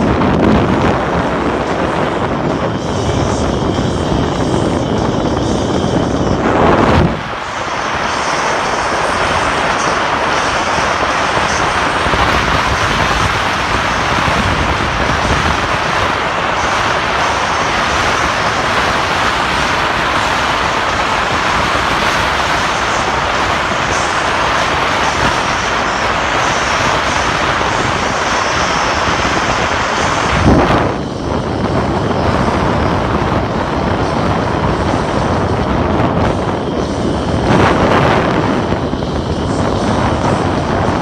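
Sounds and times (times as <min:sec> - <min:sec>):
shifting low rumble: 0:00.0 - 0:41.0
wind noise on microphone: 0:00.0 - 0:41.0.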